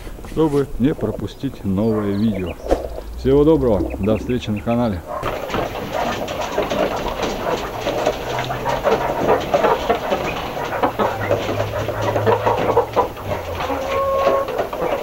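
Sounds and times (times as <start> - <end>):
hen calling: 0.0 - 15.0
hens clattering on wire cage: 0.0 - 15.0
hens clucking: 0.0 - 15.0.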